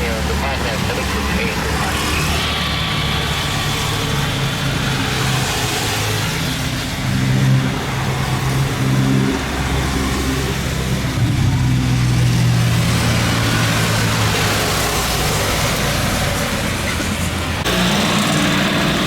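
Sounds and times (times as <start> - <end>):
steady engine hum: 0.0 - 19.0.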